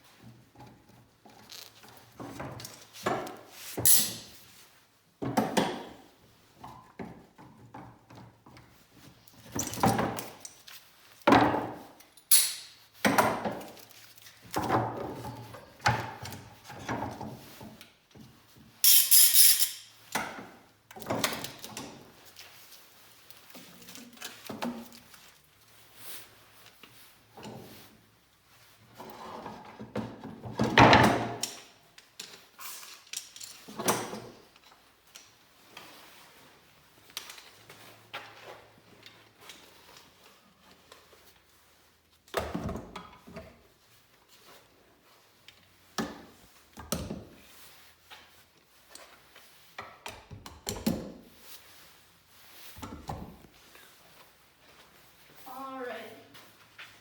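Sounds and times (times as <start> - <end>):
objects being moved and set down: 0.1 - 55.6.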